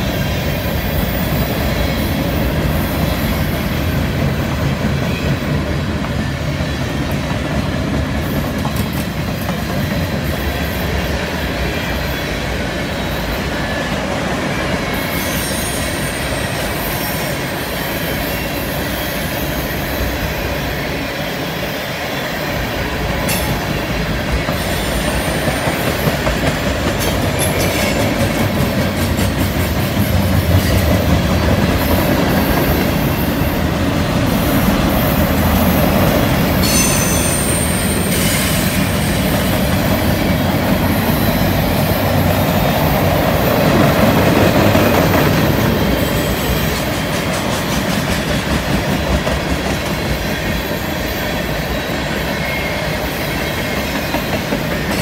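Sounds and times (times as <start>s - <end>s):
steel train wheels rumbling on rail: 0.0s - 55.0s.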